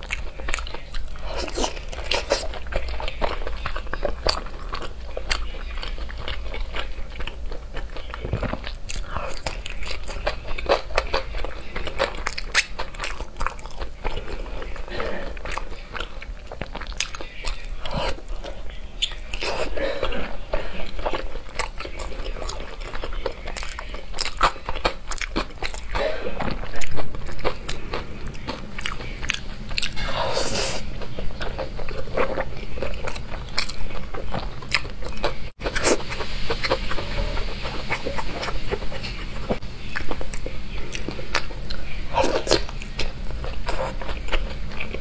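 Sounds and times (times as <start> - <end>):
person chewing crunchy food: 0.0 - 45.0.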